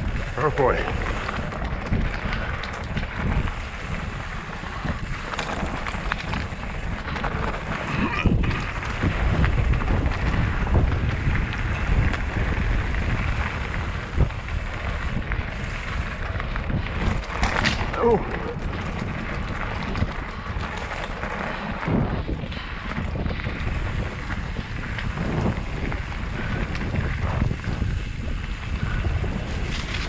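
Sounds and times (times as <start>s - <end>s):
bike clicks and knocks: 0.0s - 30.0s
bike tyres rumbling on dirt: 0.0s - 30.0s
wind over microphone: 0.0s - 30.0s.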